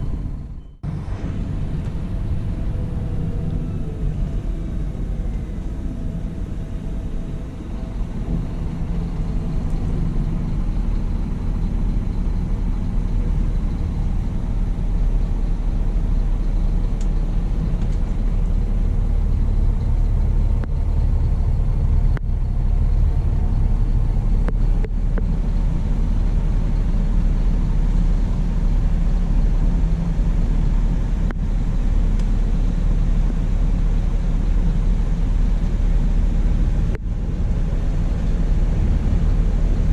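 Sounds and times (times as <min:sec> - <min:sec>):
coach engine rumble: 0:00.0 - 0:39.9
road noise: 0:00.0 - 0:39.9.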